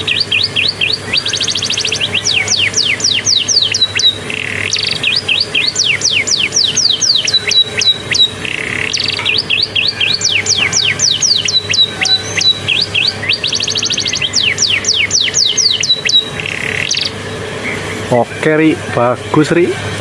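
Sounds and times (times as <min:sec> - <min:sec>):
canary whistling song: 0:00.0 - 0:18.1.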